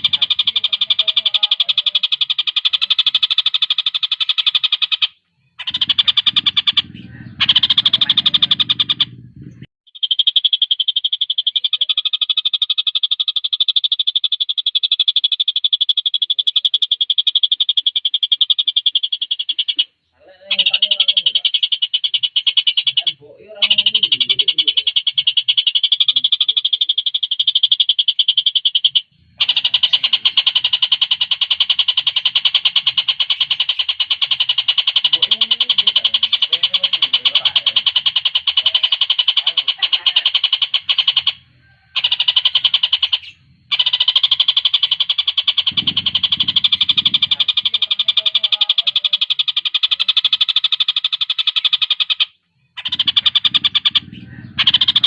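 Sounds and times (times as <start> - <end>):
kingfisher trilling: 0.0 - 55.0.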